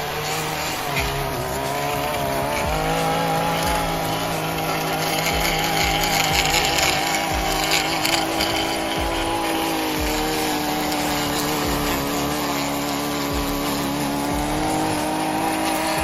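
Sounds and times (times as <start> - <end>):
gas edger running: 0.0 - 16.0.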